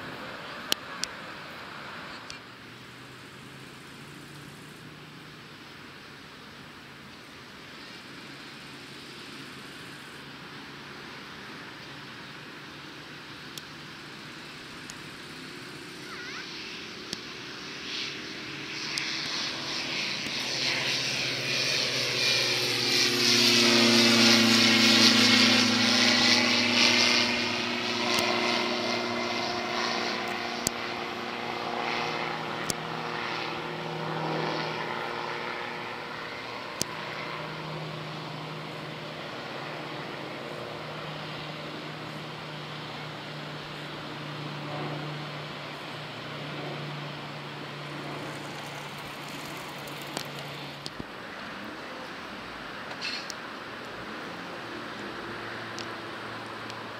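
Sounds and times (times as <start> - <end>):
propeller plane taking off: 0.0 - 56.9.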